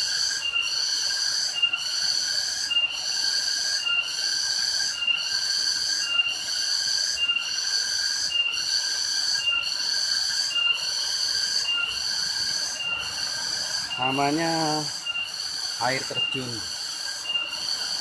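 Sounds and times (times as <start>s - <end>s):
cicadas singing shrill chorus: 0.0s - 18.0s.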